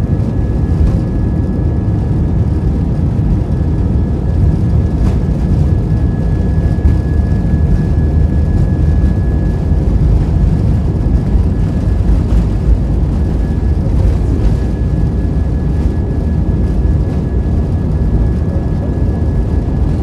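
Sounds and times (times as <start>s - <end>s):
jet engine and wheels rumble: 0.0s - 20.0s
thin steady whine: 0.0s - 20.0s.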